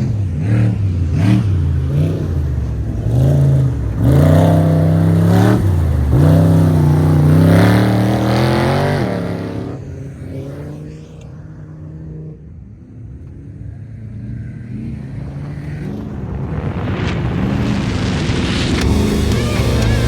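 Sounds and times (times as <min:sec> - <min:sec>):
racing car engine revving: 0:00.0 - 0:20.0.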